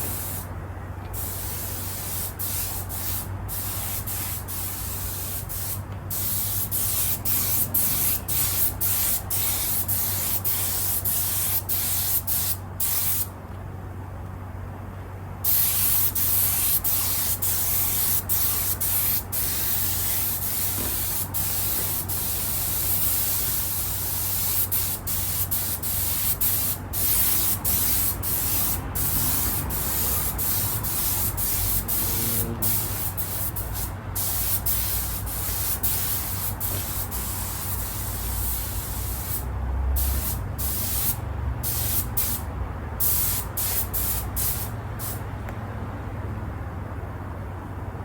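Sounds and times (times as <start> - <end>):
spray gun hissing: 0.0 - 0.5, 1.2 - 13.3, 15.5 - 45.2
steady low hum: 0.0 - 48.0.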